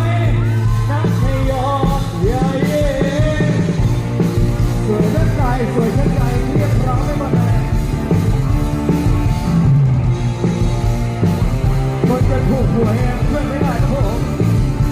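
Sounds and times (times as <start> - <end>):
live band playing dance music: 0.0 - 14.9.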